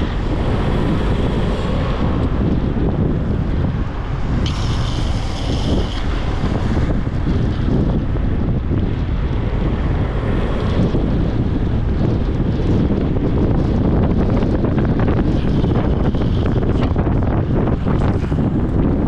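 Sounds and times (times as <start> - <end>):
skateboard wheels rolling on asphalt: 0.0 - 19.0
wind buffeting microphone: 0.0 - 19.0.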